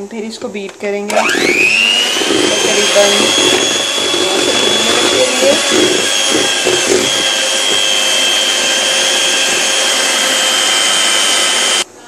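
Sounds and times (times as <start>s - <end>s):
electric hand mixer whisking: 1.1s - 11.9s.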